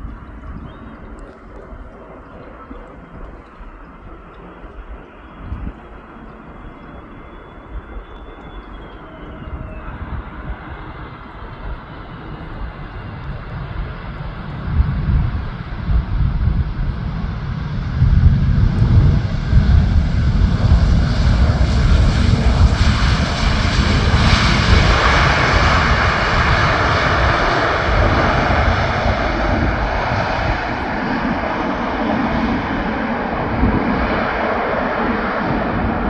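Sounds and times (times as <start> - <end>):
jet engines roaring with whine: 0.0 - 36.0
low rumble: 0.0 - 36.0.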